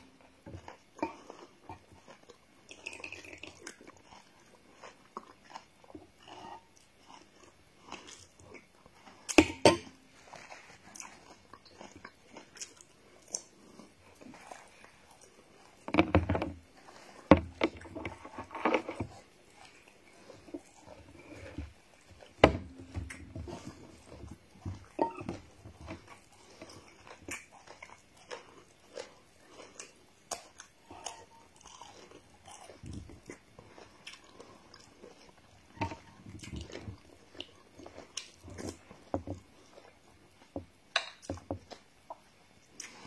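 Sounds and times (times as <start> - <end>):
person chewing crunchy coconut: 0.0 - 43.0.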